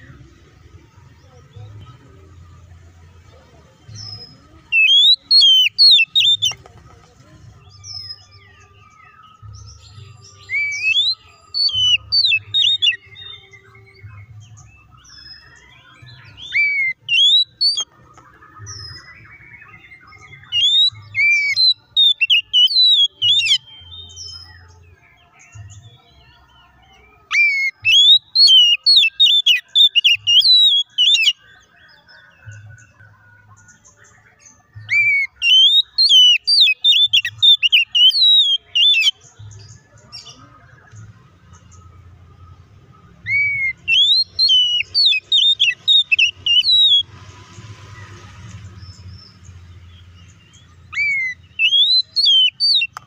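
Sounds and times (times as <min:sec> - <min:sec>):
bird singing whistled notes: 0:03.8 - 0:06.6, 0:07.6 - 0:47.2, 0:48.7 - 0:53.0.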